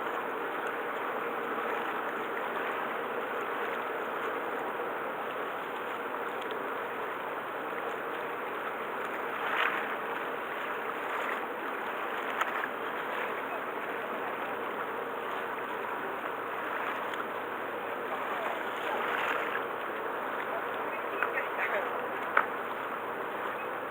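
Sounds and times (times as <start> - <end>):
water rushing: 0.0 - 23.9.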